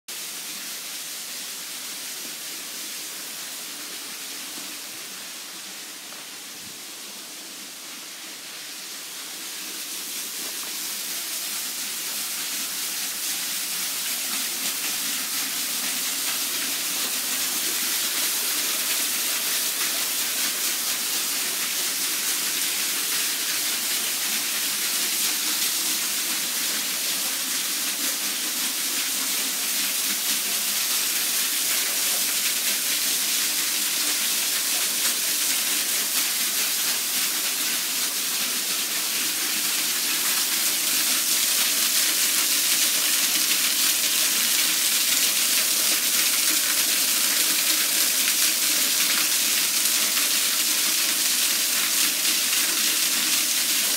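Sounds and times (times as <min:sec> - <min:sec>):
waterfall splashing over rocks: 0:07.6 - 0:53.9.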